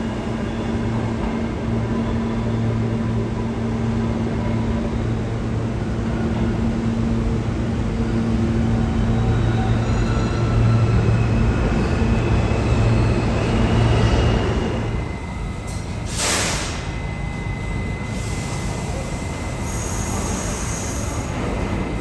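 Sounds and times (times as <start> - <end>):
subway train motor hum: 0.0 - 22.0.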